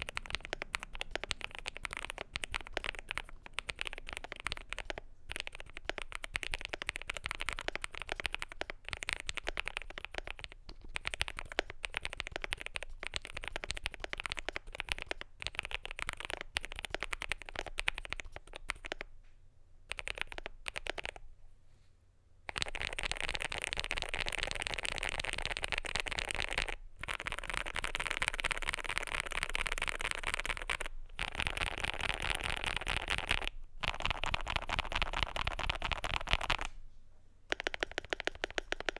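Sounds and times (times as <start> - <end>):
fast typing on keyboard: 0.0 - 19.1, 19.9 - 21.2, 22.5 - 36.7, 37.5 - 38.9.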